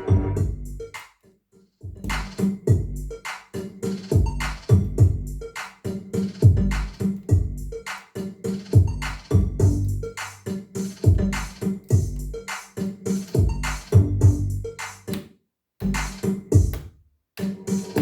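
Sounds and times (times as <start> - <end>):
electronic music with drum-machine beat: 0.0 - 1.0, 2.0 - 15.2, 15.8 - 16.8, 17.4 - 18.0.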